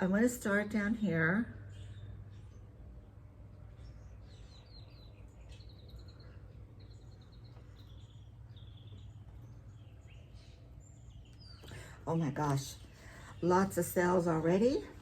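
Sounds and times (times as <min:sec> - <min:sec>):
faint bird chirping: 0:00.0 - 0:15.0
low steady hum: 0:00.0 - 0:15.0.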